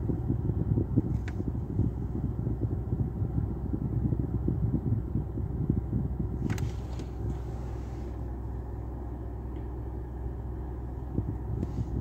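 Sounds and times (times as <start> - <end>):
car idling inside cabin: 0.0 - 12.0.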